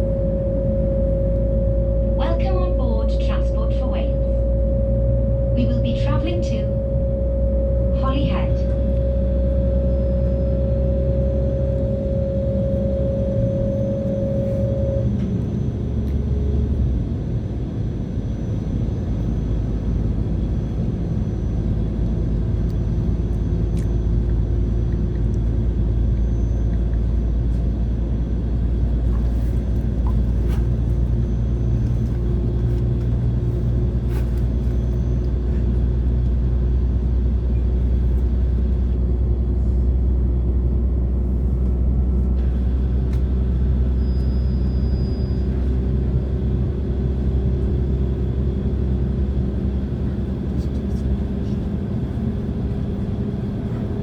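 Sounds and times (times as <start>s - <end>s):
diesel train rumbling: 0.0s - 54.0s
steady whine: 0.0s - 54.0s.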